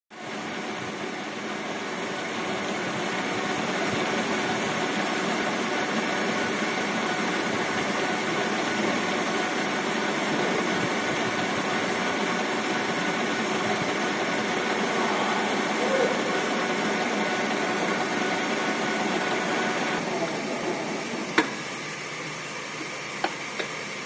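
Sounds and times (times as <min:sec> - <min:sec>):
lathe whirring: 0:00.2 - 0:24.0.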